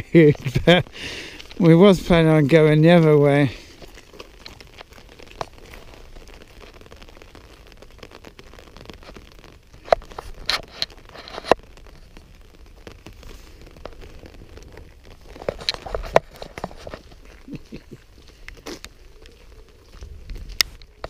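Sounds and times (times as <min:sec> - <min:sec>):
rain pattering on umbrella: 0:00.0 - 0:21.0.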